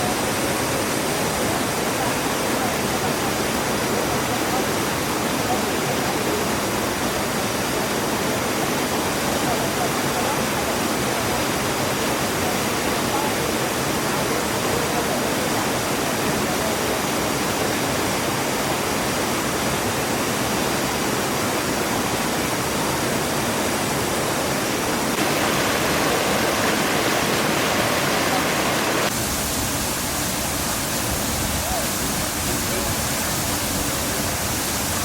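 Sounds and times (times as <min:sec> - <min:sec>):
waterfall roar: 0:00.0 - 0:35.0.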